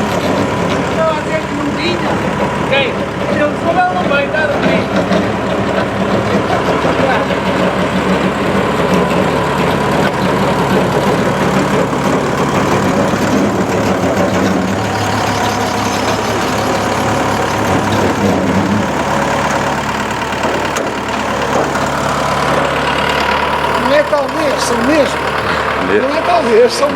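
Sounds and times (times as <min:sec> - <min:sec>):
rally car engine idling: 0:00.0 - 0:26.9.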